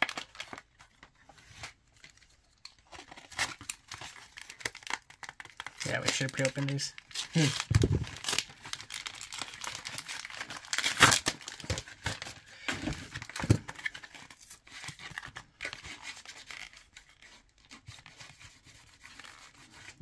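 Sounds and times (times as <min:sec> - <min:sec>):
plastic packaging crinkling: 0:00.0 - 0:01.2, 0:01.9 - 0:17.2.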